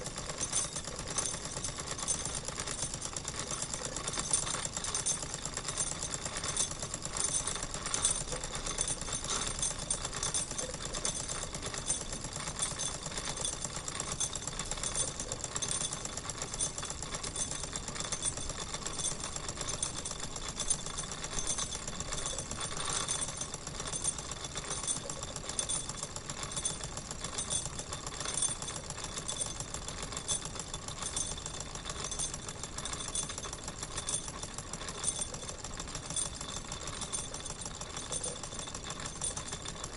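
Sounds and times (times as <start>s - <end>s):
toy steam engine running: 0.0s - 39.9s.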